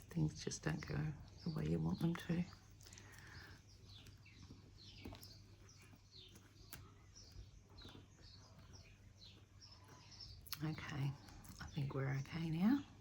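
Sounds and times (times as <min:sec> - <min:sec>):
bird chirping faintly: 0:00.0 - 0:13.0.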